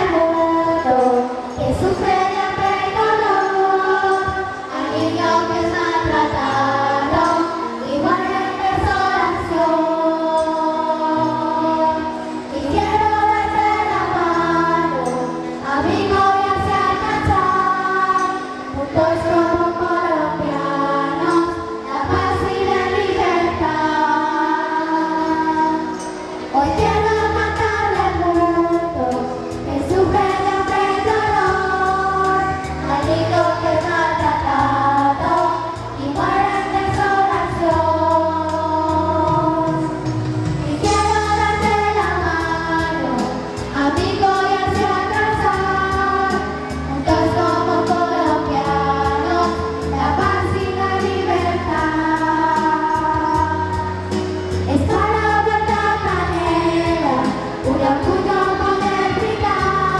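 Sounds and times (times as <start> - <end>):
children's choir singing: 0.0 - 59.9
musical accompaniment with bass: 0.0 - 59.9.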